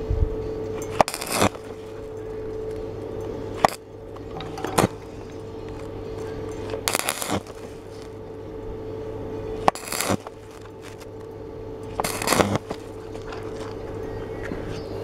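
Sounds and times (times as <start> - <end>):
steady low hum: 0.0 - 15.0
welding arc crackling: 0.7 - 14.0.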